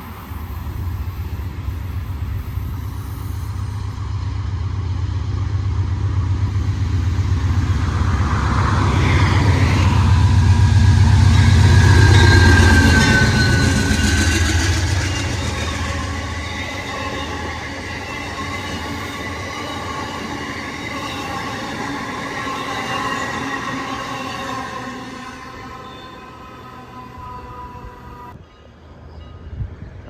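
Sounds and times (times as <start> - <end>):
train rumbling past: 0.0 - 30.0
train wheel squeal: 0.0 - 30.0.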